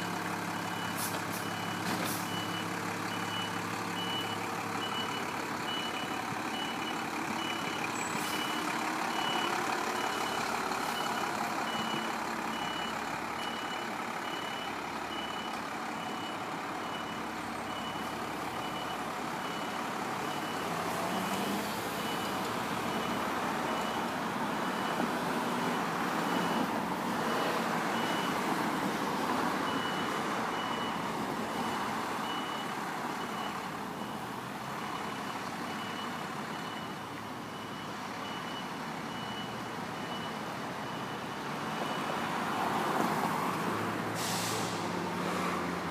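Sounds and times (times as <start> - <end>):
truck reversing alarm beeping: 0.0 - 28.6, 29.6 - 43.1
street traffic: 0.0 - 45.9
truck engine: 0.0 - 45.9.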